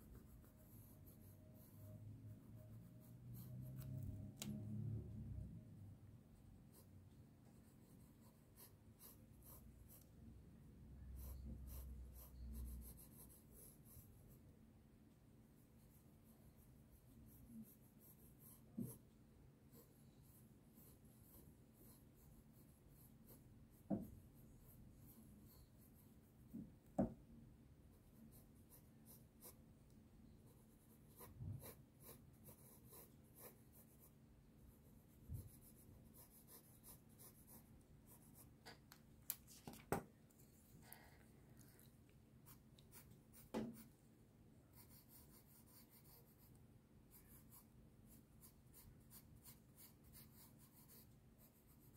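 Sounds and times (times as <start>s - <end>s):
pencil scratching on paper: 0.0s - 4.6s, 6.5s - 10.2s, 11.0s - 14.5s, 15.5s - 27.2s, 27.9s - 29.7s, 30.3s - 38.9s, 39.5s - 44.0s, 44.7s - 51.9s.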